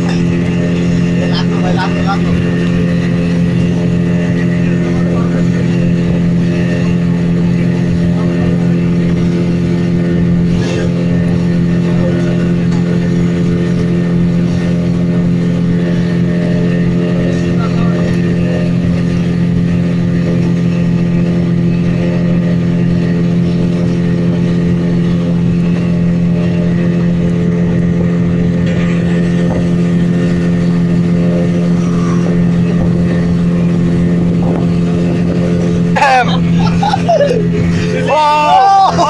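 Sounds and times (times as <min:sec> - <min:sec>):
speedboat engine droning: 0:00.0 - 0:39.0.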